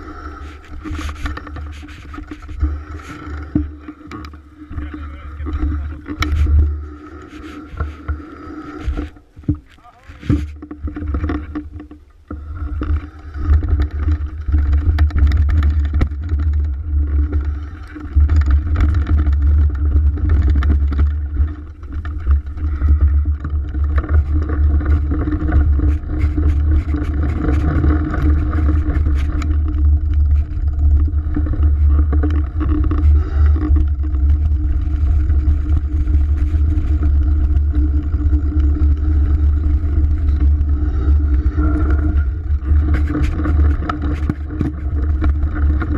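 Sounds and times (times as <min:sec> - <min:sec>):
bike rattling over bumps: 0:00.0 - 0:45.9
wind rumble on microphone: 0:00.0 - 0:45.9.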